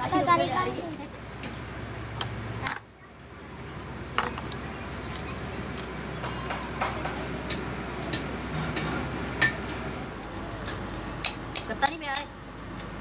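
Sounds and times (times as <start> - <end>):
metal tools tapping metal parts: 1.1 - 3.3, 4.2 - 13.0.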